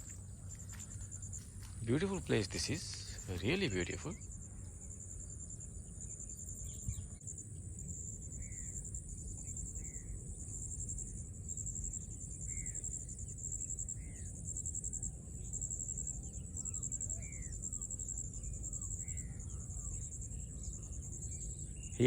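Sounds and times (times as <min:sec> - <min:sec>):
pulsing insect chorus: 0:00.0 - 0:22.0.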